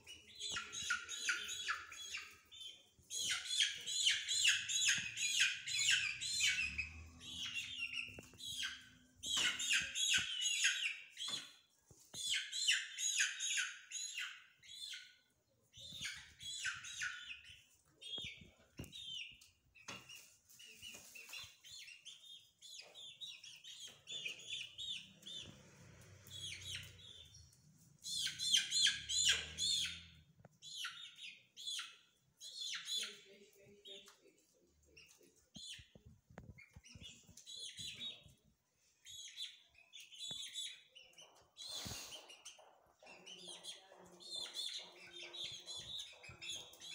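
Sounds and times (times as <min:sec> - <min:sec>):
young chickens peeping: 0:00.0 - 0:46.9.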